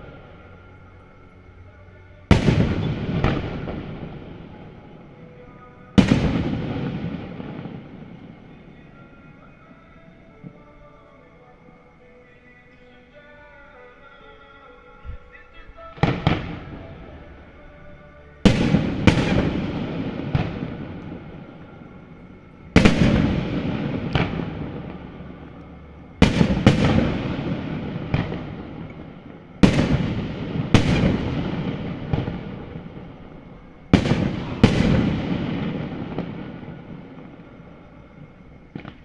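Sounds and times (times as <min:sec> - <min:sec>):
fireworks bursting: 0:00.0 - 0:39.0.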